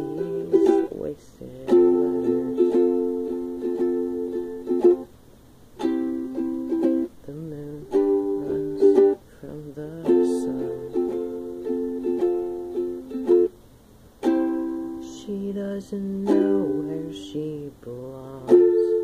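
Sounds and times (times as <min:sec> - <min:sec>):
ukulele strumming chords: 0:00.0 - 0:19.0.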